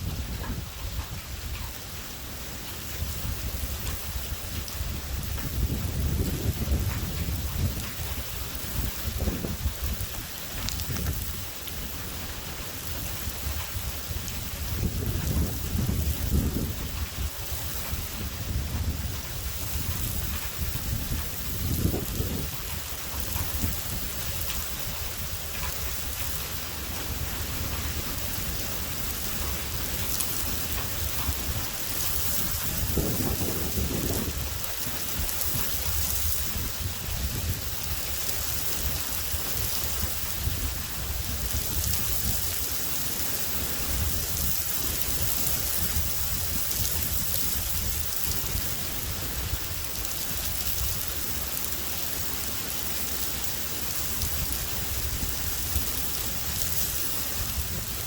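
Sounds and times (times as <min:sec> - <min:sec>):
heavy rain: 0:00.0 - 0:58.0
low rolling thunder: 0:02.8 - 0:58.0.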